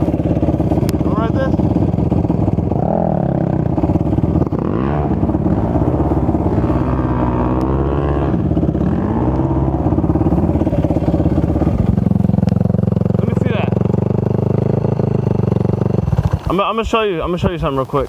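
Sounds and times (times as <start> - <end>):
off-road engine revving: 0.0 - 18.0.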